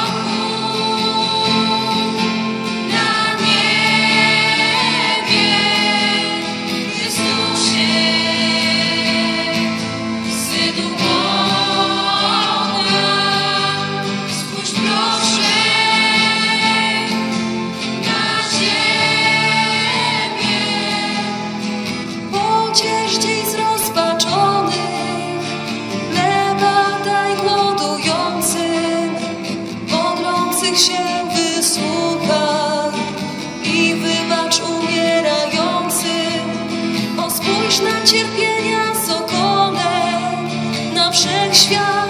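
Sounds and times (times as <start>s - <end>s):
group singing a religious song: 0.0s - 29.3s, 33.0s - 42.0s.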